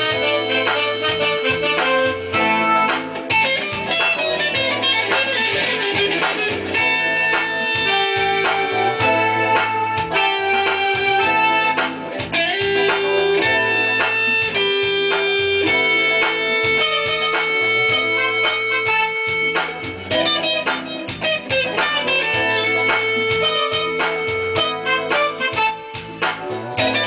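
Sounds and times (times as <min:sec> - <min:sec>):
plucked guitar melody: 0:00.0 - 0:27.0.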